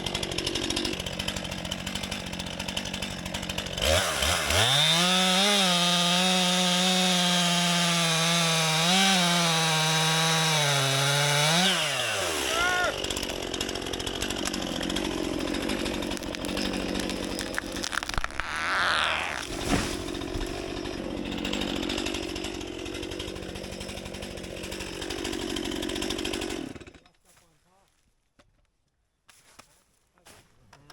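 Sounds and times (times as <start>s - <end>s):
chainsaw revving and idling: 0.0s - 27.1s.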